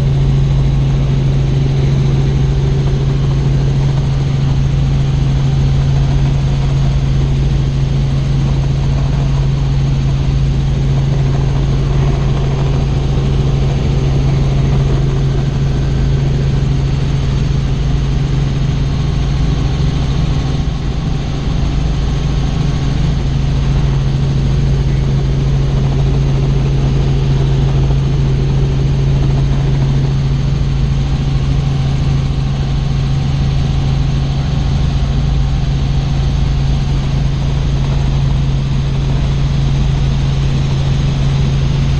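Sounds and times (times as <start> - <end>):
helicopter rotor drone: 0.0 - 41.9.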